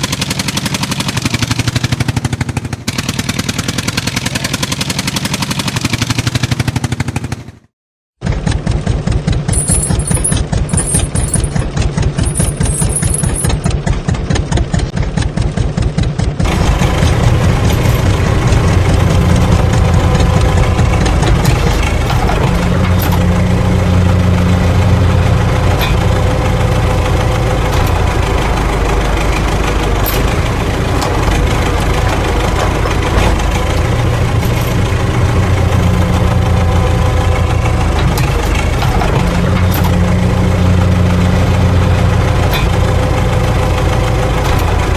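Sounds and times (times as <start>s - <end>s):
engine running rumble with hum: 8.2s - 44.9s
engine chugging: 8.3s - 44.9s.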